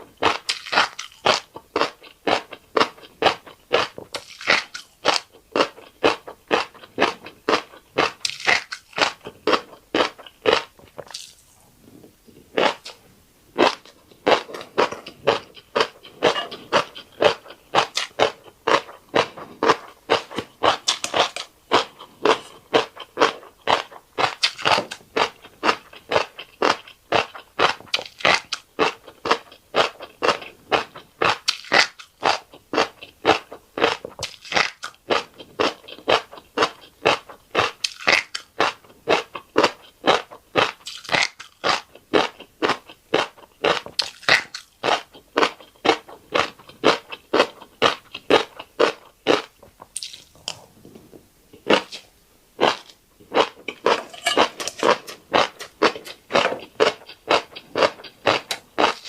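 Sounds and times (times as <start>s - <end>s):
close chewing: 0.0s - 59.0s.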